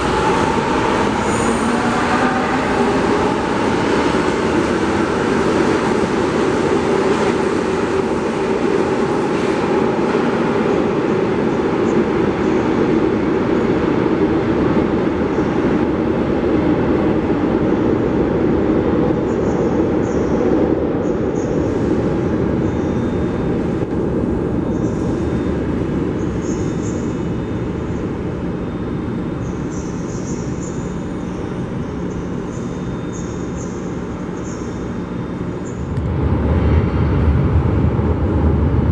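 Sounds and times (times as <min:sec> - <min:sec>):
metro train rumble: 0:00.0 - 0:38.9.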